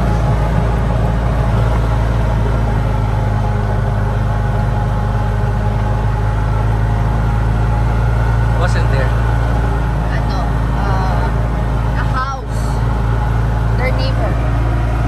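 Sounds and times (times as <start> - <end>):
golf cart motor rumble: 0.0 - 15.0.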